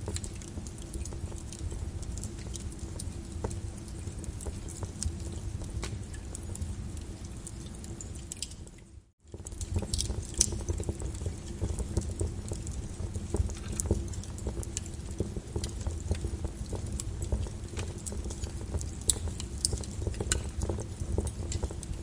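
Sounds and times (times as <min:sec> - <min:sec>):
lava crackling and popping: 0:00.0 - 0:22.0.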